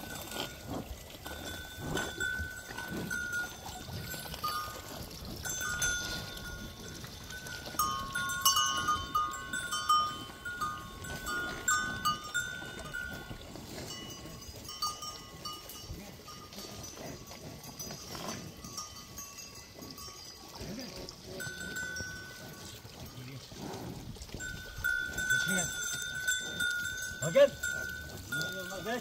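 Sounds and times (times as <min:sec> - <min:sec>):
cow bell clanking: 0:00.0 - 0:29.0.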